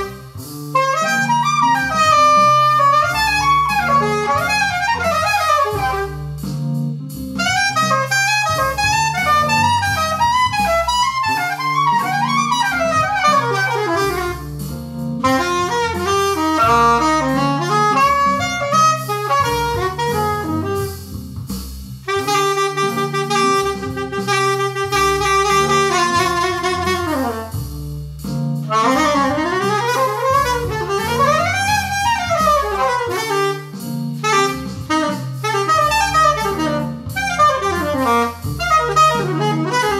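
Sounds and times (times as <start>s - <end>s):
electronic jam music: 0.0s - 39.9s.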